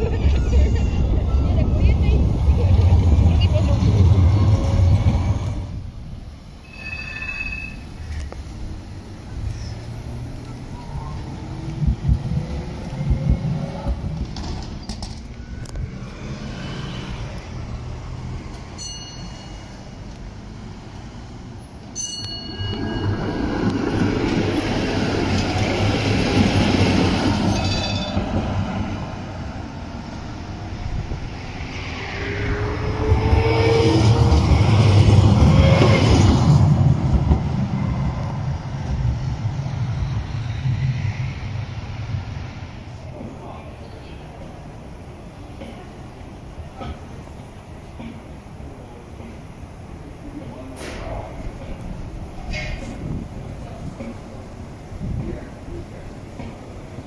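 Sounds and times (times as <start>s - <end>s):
trams passing with rumble: 0.0s - 57.0s.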